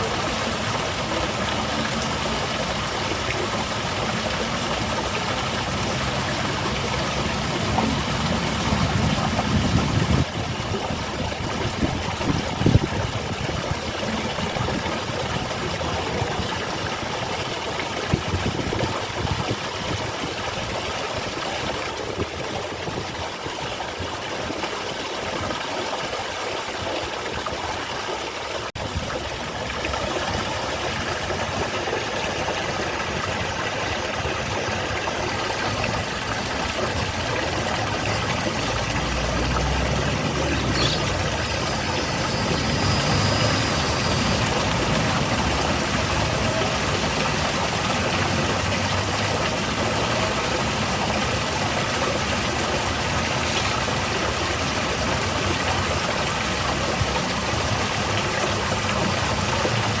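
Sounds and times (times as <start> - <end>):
waterfall splashing: 0.0 - 60.0.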